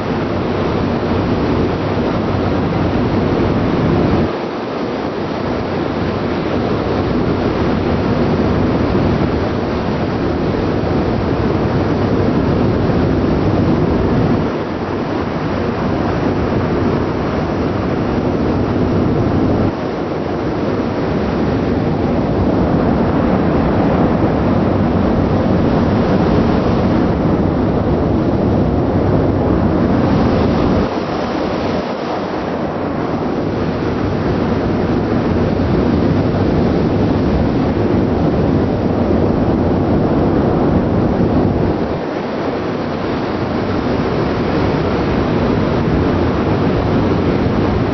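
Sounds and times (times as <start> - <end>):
ship noise: 0.0 - 47.9
wind buffeting microphone: 0.0 - 47.9
wind rushing: 0.0 - 47.9.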